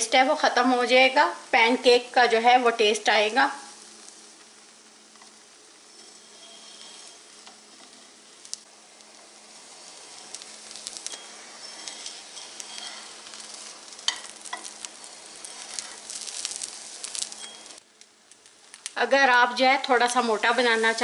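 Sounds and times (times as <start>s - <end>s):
oil sizzling in pan: 0.0s - 21.0s.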